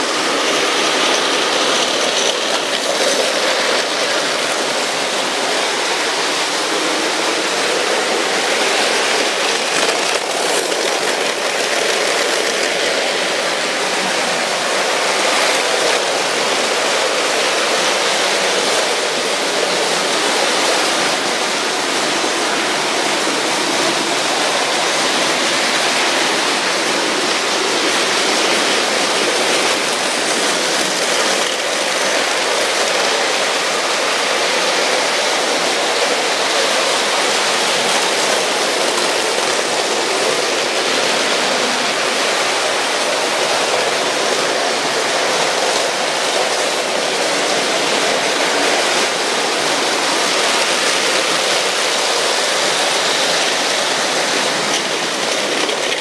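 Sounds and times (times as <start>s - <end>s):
toy trains rattling on plastic track: 0.0s - 56.0s.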